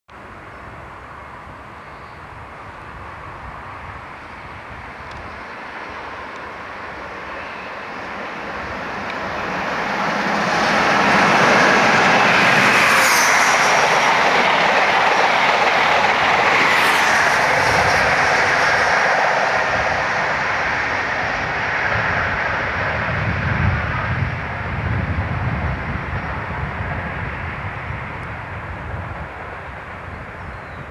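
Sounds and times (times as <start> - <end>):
diesel train passing: 0.1 - 30.9
diesel locomotive rumble: 2.3 - 30.5.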